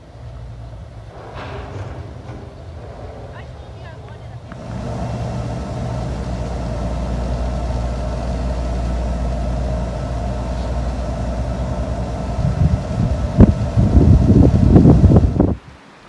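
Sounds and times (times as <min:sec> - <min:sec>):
gondola station mechanical hum: 0:00.0 - 0:16.0
wind buffeting microphone: 0:00.5 - 0:15.9.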